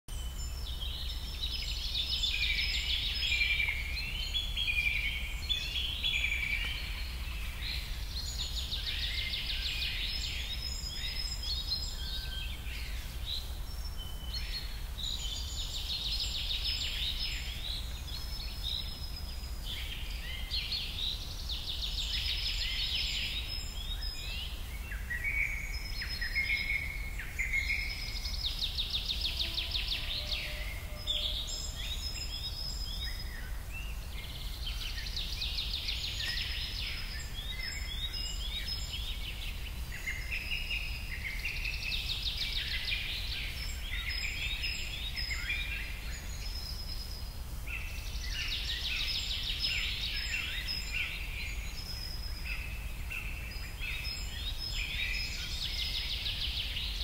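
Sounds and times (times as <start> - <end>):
birds chirping and trilling: 0.1 - 57.0.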